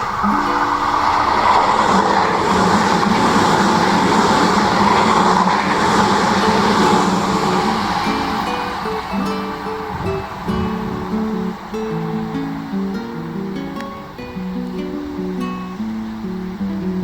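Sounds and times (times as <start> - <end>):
electric train running past: 0.0 - 17.0
guitar music: 0.0 - 17.0.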